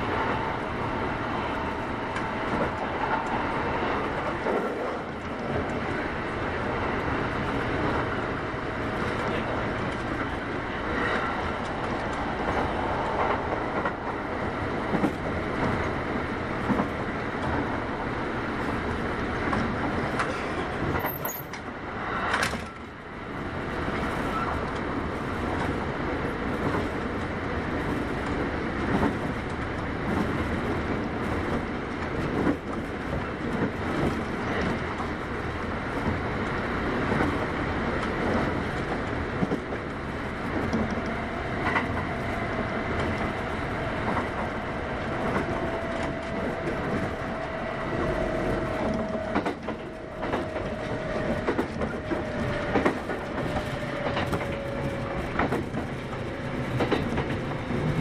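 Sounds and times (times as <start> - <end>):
electric train rumbling on track: 0.0 - 58.0.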